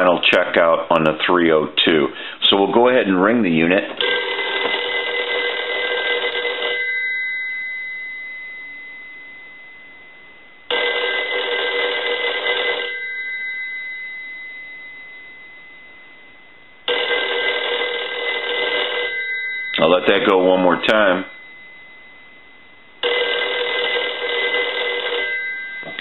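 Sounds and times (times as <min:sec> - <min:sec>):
rotary telephone bell ringing: 0:04.0 - 0:26.0.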